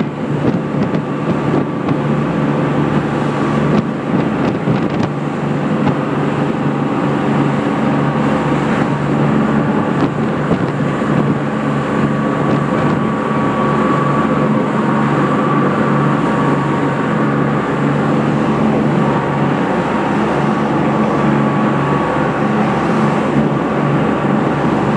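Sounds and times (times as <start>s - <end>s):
motorboat engine droning: 0.0s - 24.9s
rush of wind and water: 0.0s - 24.9s.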